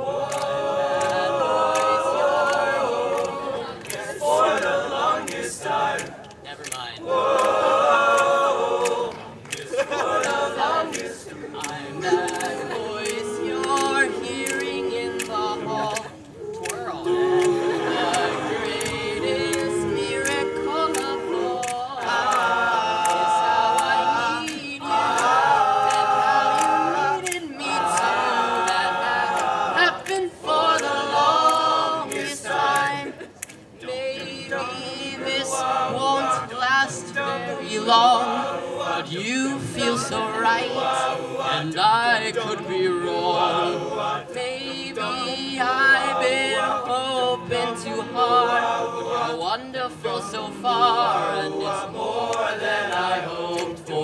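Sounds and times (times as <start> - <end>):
men singing a cappella: 0.0 - 6.2, 6.9 - 54.0.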